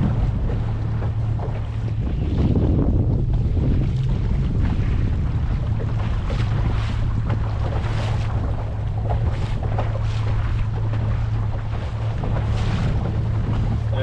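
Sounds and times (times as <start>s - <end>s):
boat motor humming: 0.0s - 14.0s
water splashing against hull: 0.0s - 14.0s
wind on microphone: 0.0s - 14.0s.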